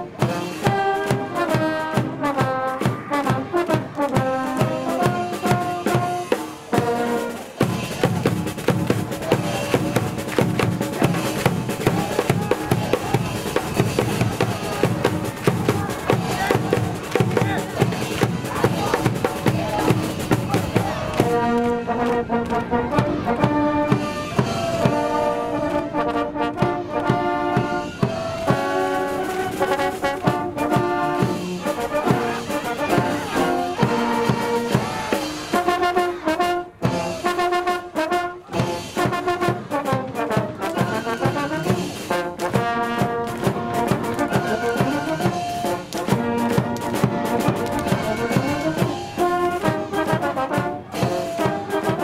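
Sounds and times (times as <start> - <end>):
drum beat: 0.0 - 21.6, 22.8 - 25.9, 26.6 - 36.2, 38.4 - 52.0
brass band playing: 0.0 - 52.0.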